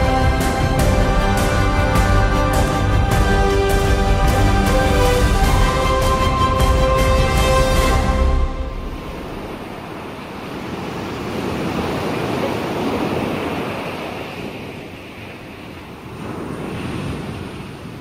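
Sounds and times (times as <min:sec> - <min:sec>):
sea waves washing: 0:00.0 - 0:18.0.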